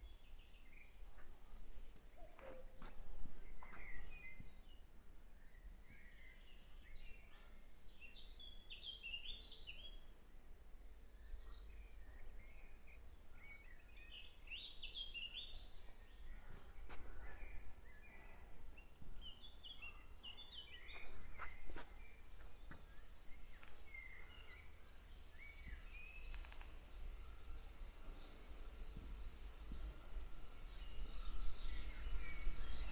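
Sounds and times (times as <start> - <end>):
faint low wind rumble: 0.0 - 32.9
songbirds chirping: 0.0 - 32.9.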